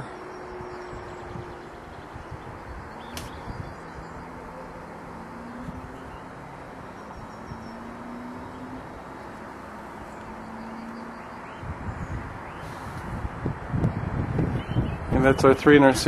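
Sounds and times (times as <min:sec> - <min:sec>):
distant engine drone: 0:00.0 - 0:16.0
wind rushing and rumbling: 0:00.0 - 0:16.0.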